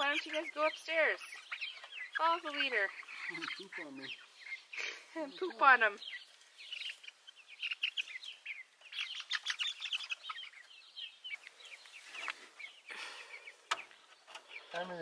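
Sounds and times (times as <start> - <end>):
chicks cheeping: 0.0 - 15.0.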